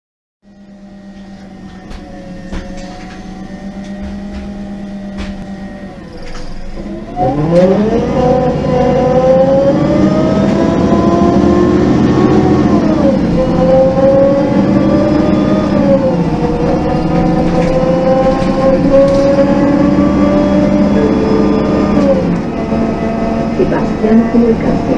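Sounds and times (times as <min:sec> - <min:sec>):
bus engine revving under load: 0:00.5 - 0:24.9.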